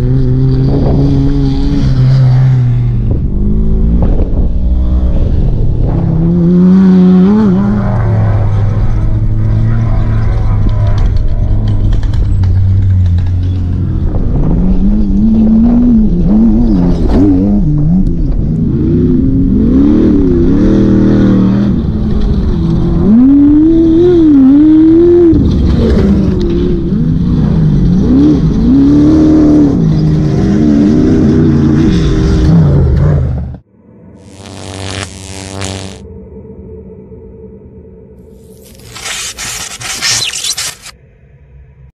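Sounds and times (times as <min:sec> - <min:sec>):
racing buggy engines revving: 0:00.0 - 0:33.6.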